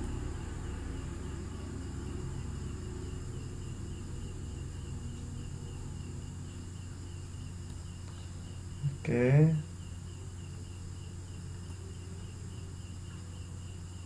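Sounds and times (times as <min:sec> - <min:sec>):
electrical hum and hiss: 0:00.0 - 0:14.0.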